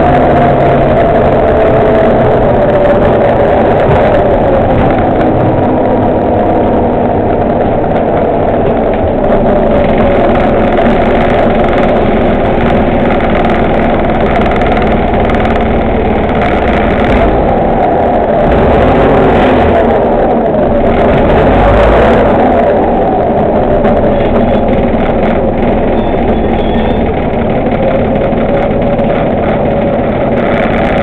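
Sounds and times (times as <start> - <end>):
bus engine running: 0.0 - 31.0
drivetrain whine: 0.0 - 31.0.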